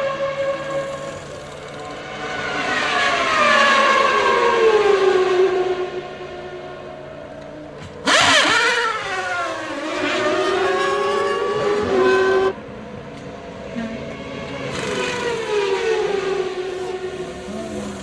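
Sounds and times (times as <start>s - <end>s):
racing car engines at high revs: 0.0s - 18.0s.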